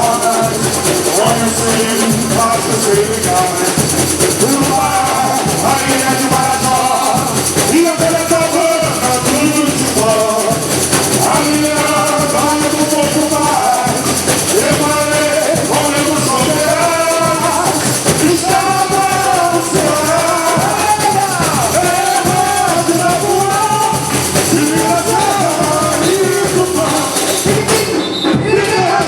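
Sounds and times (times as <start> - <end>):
samba percussion: 0.0 - 29.0
voices singing: 0.0 - 29.0.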